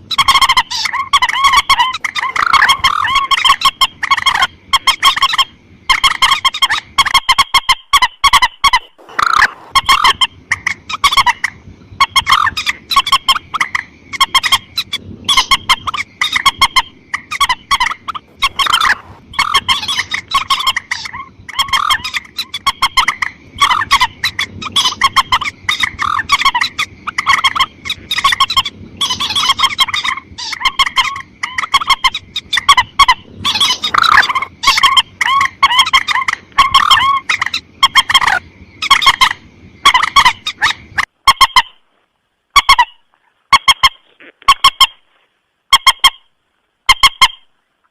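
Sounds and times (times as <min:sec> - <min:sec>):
rail bird calls: 0:00.0 - 0:41.9.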